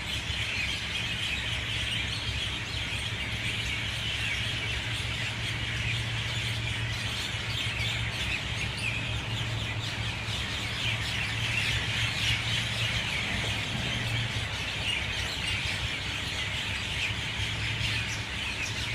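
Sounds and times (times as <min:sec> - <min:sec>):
myna birds chattering: 0:00.1 - 0:18.9.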